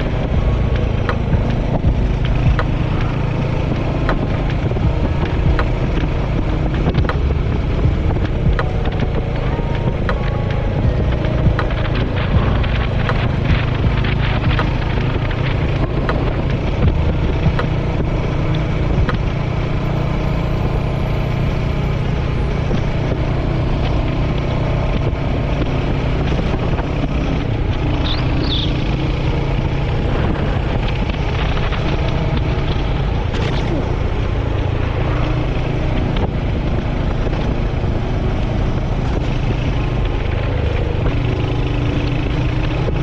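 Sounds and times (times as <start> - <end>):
motorcycle engine running: 0.0 - 43.0
wind rushing over microphone: 0.0 - 43.0.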